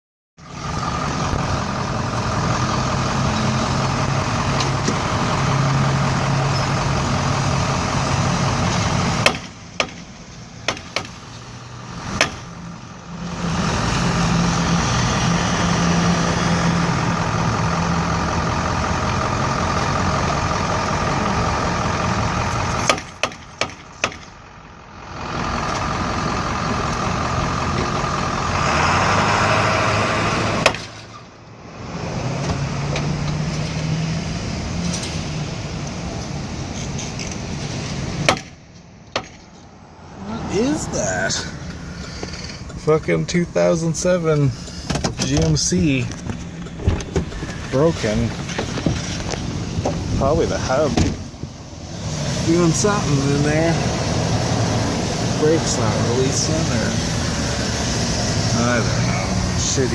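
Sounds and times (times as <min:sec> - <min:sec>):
pickup truck engine running: 0:00.4 - 0:29.4, 0:35.4 - 0:59.9.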